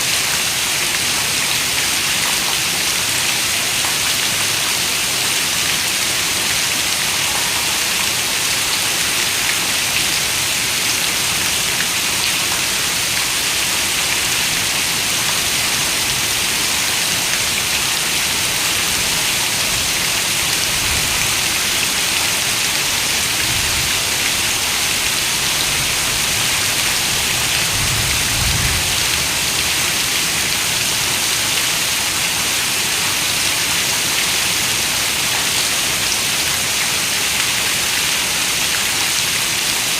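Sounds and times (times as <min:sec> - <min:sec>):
heavy rain on a window: 0:00.2 - 0:39.9.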